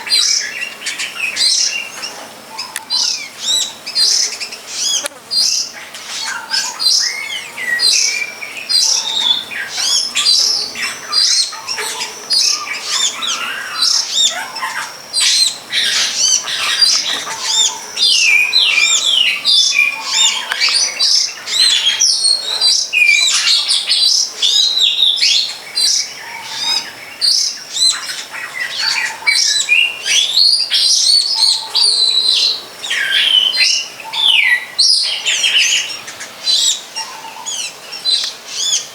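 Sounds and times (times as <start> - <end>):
birds chirping and chattering: 0.0 - 38.9.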